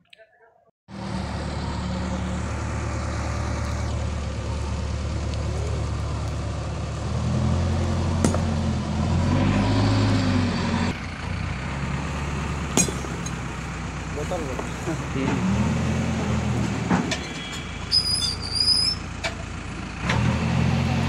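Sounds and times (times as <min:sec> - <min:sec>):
diesel engine running: 0:00.9 - 0:21.0.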